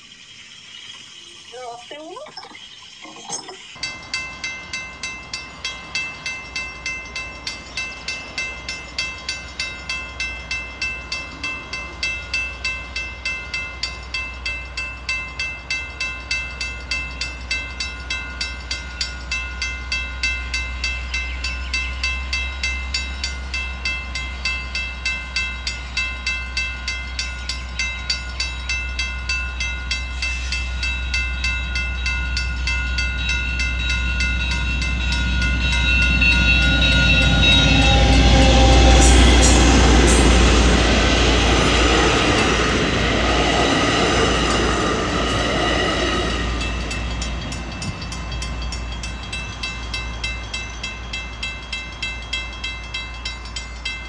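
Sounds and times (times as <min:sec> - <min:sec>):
level-crossing warning bell: 0:03.0 - 0:54.0
train rumble: 0:03.8 - 0:54.0.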